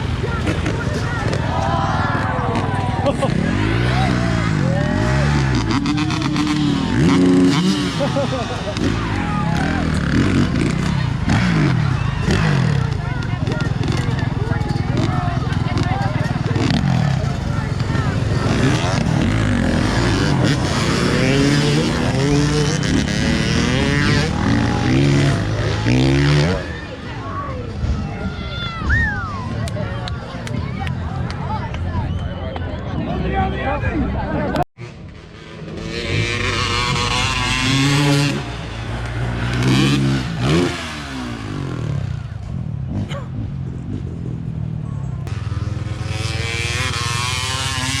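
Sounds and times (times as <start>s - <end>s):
vehicle engine revving: 0.0s - 27.0s, 34.8s - 48.0s.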